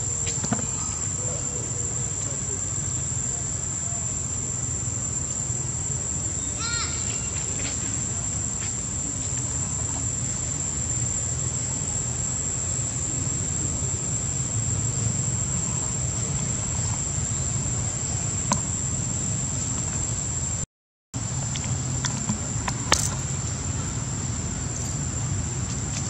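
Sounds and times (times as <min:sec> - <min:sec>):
high-pitched insect chorus: 0:00.0 - 0:20.6, 0:21.2 - 0:26.0.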